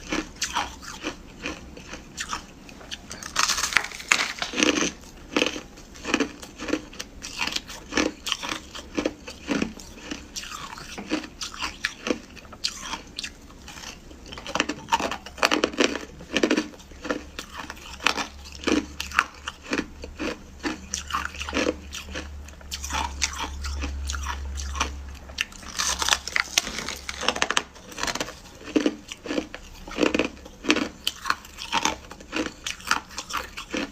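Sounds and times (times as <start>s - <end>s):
crunching and chewing ice: 0.0s - 33.9s.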